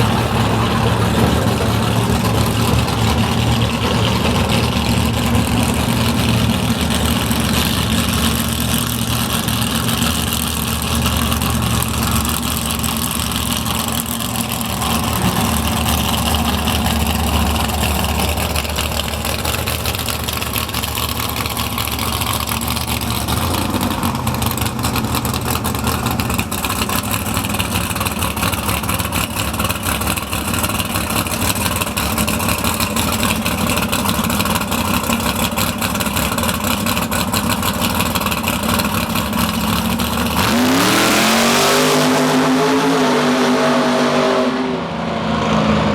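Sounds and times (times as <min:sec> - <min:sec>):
drag car engine idling: 0:00.0 - 0:42.5.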